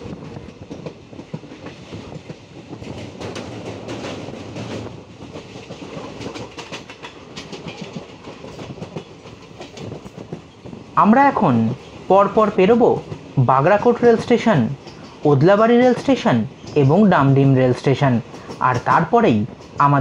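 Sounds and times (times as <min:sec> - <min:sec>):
train wheels rumbling on track: 0:00.0 - 0:20.0
wheels clicking over rail joints: 0:00.2 - 0:11.0, 0:11.8 - 0:17.1, 0:18.3 - 0:20.0.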